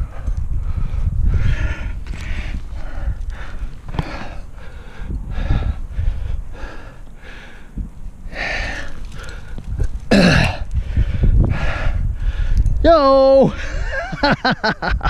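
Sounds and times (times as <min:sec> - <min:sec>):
person breathing hard: 0:00.0 - 0:12.7.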